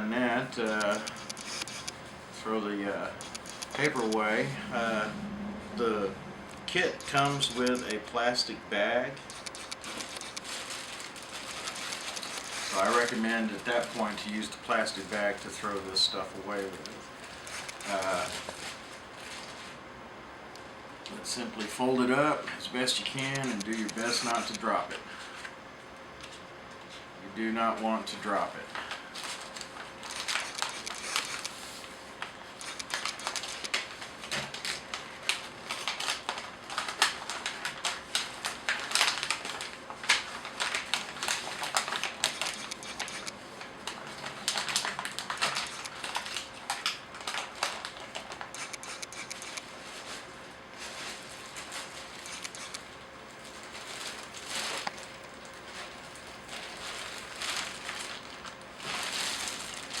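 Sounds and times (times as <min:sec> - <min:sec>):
paper and plastic bag crinkling: 0:00.2 - 0:05.0, 0:06.7 - 0:08.4, 0:09.0 - 0:19.8, 0:21.2 - 0:25.5, 0:26.3 - 1:00.0.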